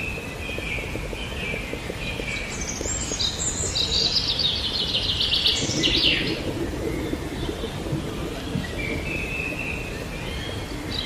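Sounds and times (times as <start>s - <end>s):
outdoor background hiss: 0.0s - 11.0s
songbird singing: 0.0s - 11.0s.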